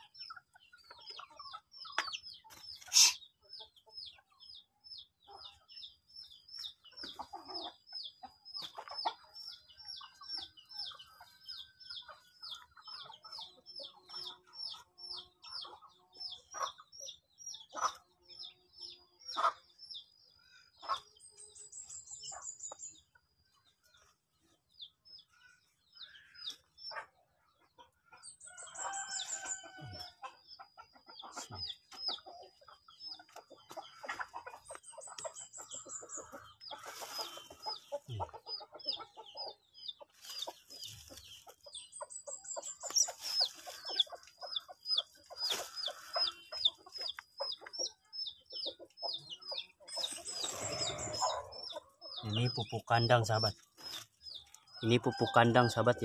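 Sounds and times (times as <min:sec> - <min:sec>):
small bird chirping: 0:00.0 - 0:55.9
chickens calling: 0:00.0 - 0:56.0.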